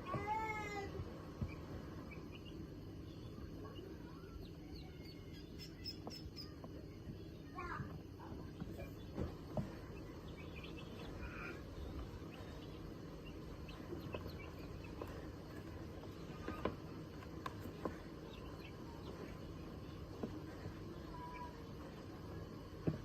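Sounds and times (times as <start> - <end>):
low background noise: 0.0 - 23.0.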